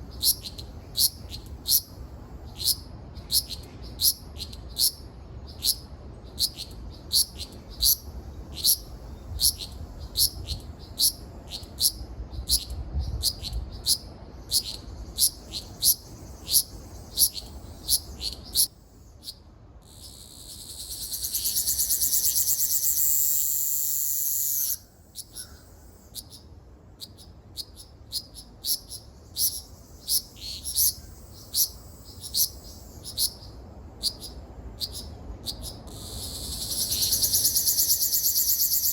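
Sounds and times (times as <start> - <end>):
cicada pulsing buzz: 0.0 - 38.9.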